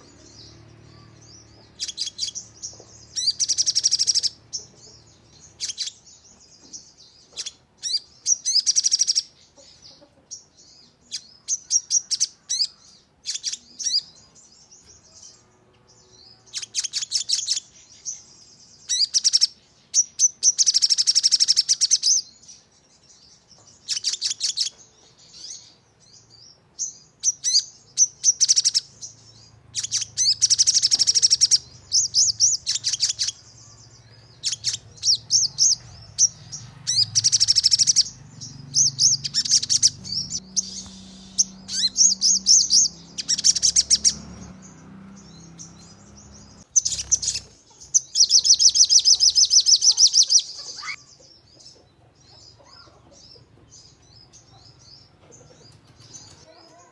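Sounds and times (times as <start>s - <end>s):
bird trilling high chirps: 0.0s - 10.1s, 10.7s - 22.4s, 23.8s - 51.3s.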